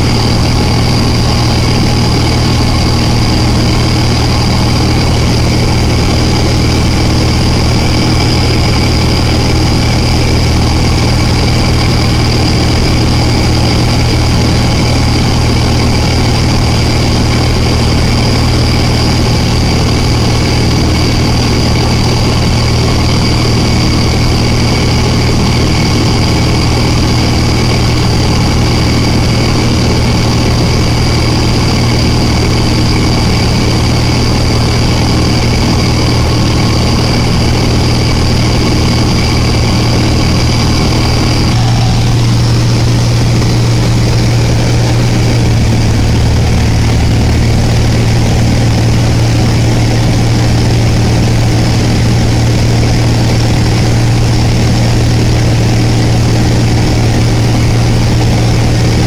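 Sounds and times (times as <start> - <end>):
high whine: 0.0 - 59.0
propeller aircraft engine droning: 0.0 - 59.0.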